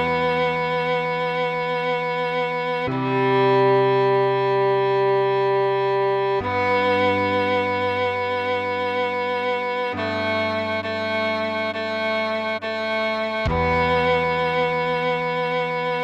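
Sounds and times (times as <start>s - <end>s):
solo cello melody: 0.0s - 16.0s.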